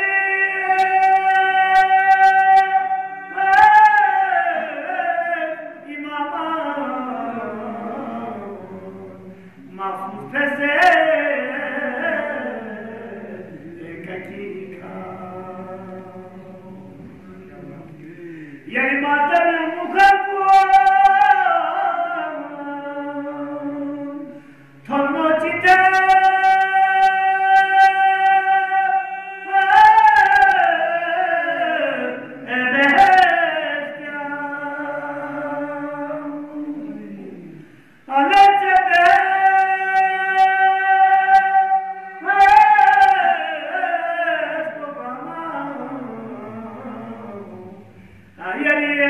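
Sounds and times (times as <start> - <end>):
men singing unaccompanied: 0.0 - 49.0.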